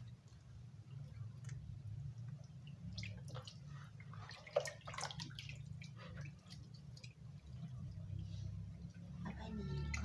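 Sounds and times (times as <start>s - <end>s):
squelching and sloshing in water: 0.0s - 10.0s
water dripping into basin: 0.0s - 10.0s.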